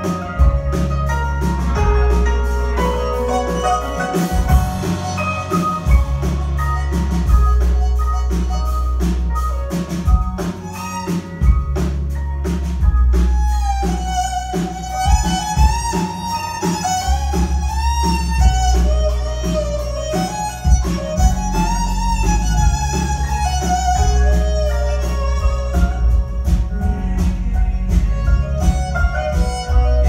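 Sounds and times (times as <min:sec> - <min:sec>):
bass: 0:00.0 - 0:30.0
drum kit beat: 0:00.0 - 0:30.0
fiddle melody: 0:00.0 - 0:30.0
keyboard: 0:00.0 - 0:30.0.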